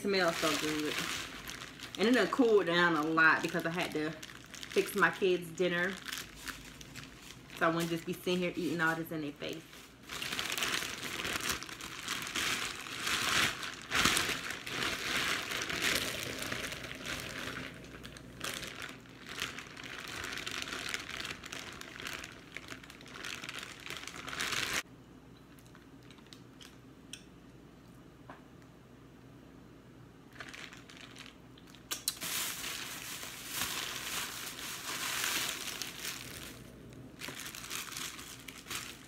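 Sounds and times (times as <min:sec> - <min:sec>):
plastic bag crinkling: 0:00.0 - 0:24.8, 0:30.3 - 0:39.0.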